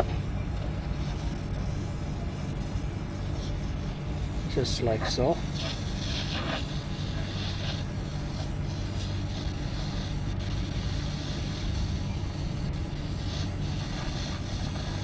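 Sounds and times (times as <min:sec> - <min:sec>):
torch flame roaring: 0:00.0 - 0:15.0.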